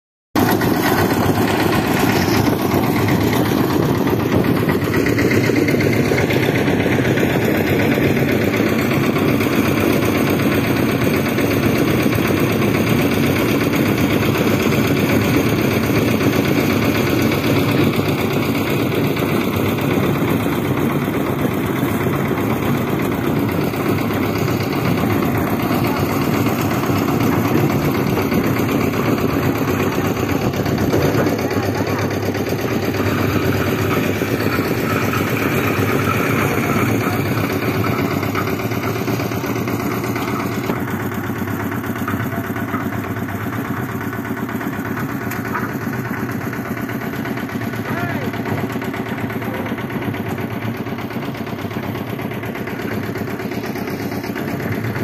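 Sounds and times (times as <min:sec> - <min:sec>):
concrete mixer engine running: 0:00.4 - 0:55.0.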